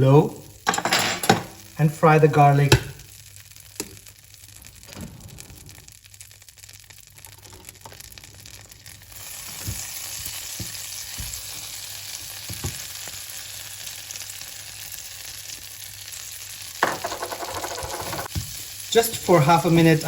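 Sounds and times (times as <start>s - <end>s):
garlic sizzling in butter: 1.7s - 4.8s, 5.7s - 17.6s, 18.2s - 20.0s.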